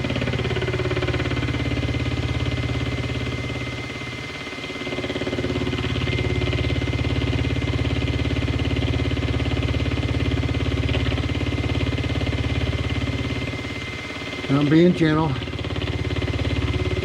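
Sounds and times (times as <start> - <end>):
milling machine cutting hum: 0.0 - 17.0.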